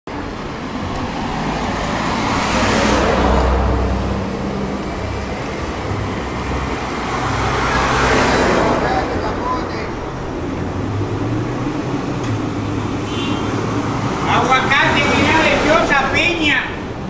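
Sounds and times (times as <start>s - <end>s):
vehicles passing close by: 0.1s - 17.0s.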